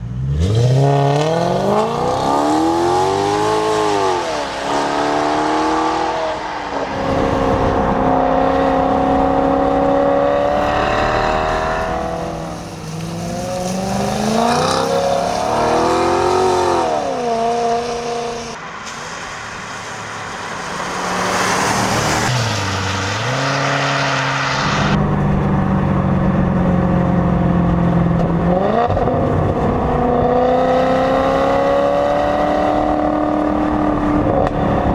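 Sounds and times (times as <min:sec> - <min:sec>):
car engine revving: 0:00.0 - 0:18.6, 0:19.6 - 0:34.9.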